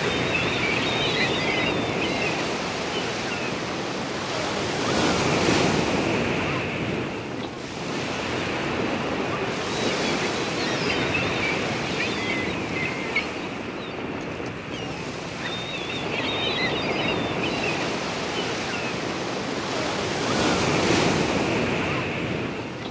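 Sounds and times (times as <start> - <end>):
small waves breaking on beach: 0.0 - 22.9.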